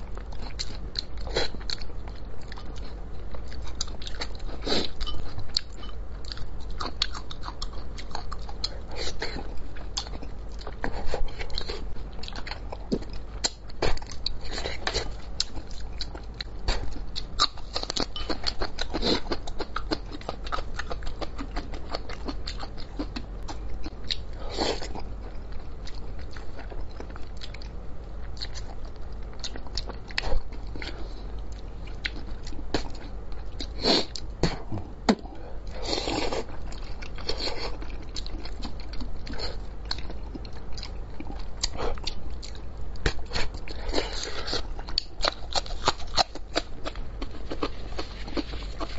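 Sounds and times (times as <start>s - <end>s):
chewing with wet mouth clicks: 0.0s - 34.5s, 35.9s - 48.9s.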